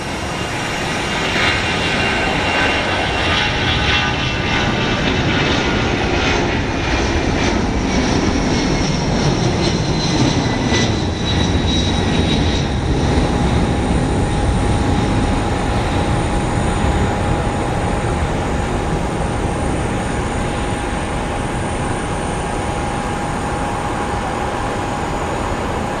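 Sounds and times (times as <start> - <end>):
jet engine rumble and whine: 0.0 - 26.0.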